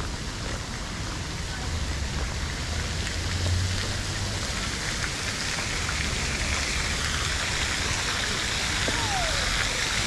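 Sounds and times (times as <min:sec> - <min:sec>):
falling splashing water: 0:00.0 - 0:10.0.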